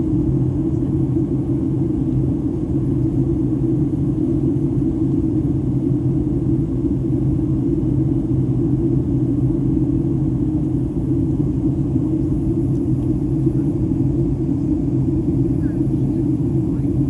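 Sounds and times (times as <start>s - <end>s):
airplane cabin engine rumble: 0.0s - 17.0s
steady low hum: 0.0s - 17.0s.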